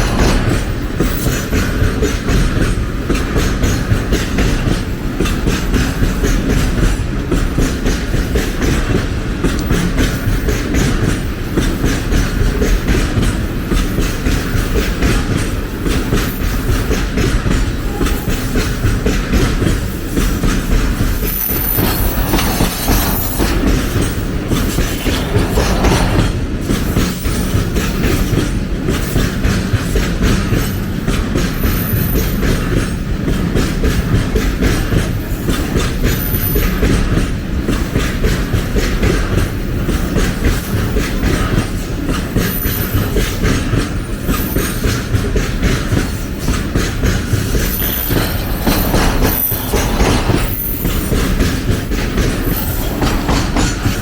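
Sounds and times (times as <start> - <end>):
train wheels clattering over rail joints: 0.0 - 54.0.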